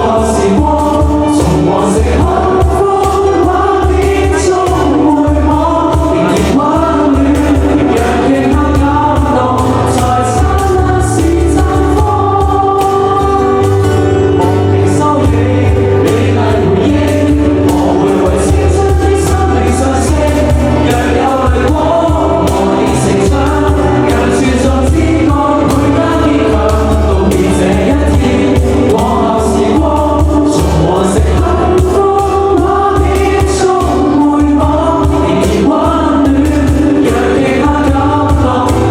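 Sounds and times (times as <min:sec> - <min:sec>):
group singing: 0:00.0 - 0:38.9
live rock band: 0:00.0 - 0:38.9.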